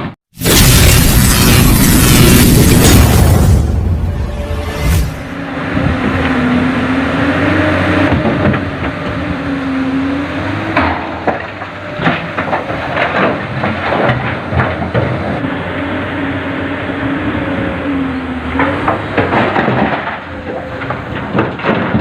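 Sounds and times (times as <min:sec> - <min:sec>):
diesel excavator engine: 0:00.0 - 0:22.0.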